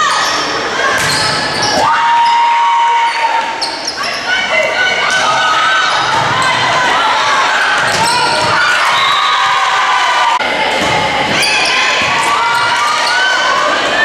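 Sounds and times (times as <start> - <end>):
people shouting and calling: 0.0 - 14.0.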